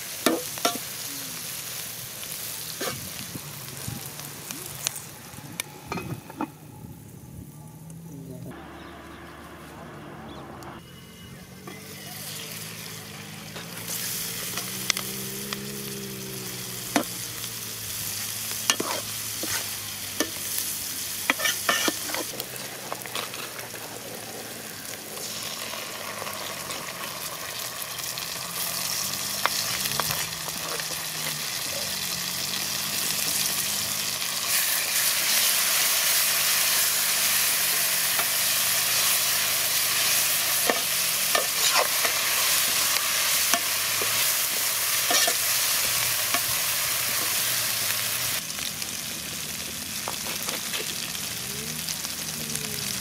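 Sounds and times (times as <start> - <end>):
onions frying in a metal pot: 0.0 - 8.9, 11.3 - 53.0.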